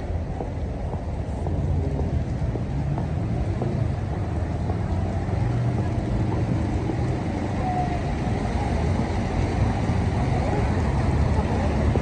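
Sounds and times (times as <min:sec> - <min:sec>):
cars driving on wet road: 0:00.0 - 0:12.0.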